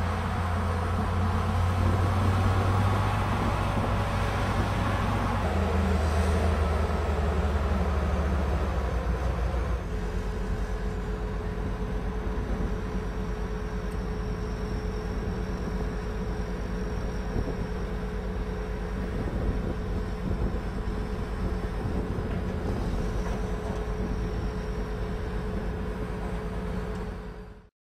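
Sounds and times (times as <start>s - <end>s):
diesel engine running: 0.0s - 27.7s
steady whine: 0.0s - 27.7s.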